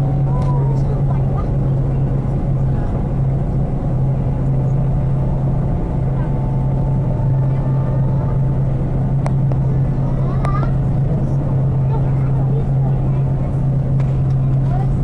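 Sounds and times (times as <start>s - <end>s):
faint voices: 0.0s - 15.0s
large vehicle engine drone: 0.0s - 15.0s.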